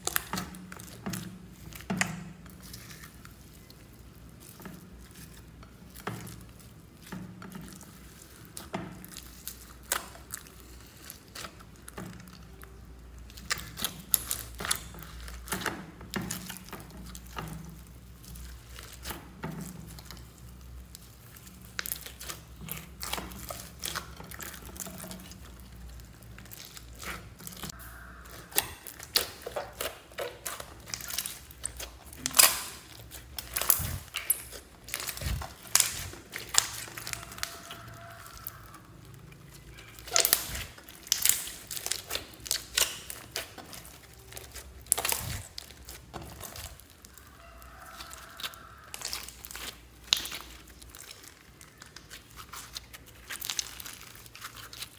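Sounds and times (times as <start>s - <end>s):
slime squishing by hand: 0.0s - 54.9s.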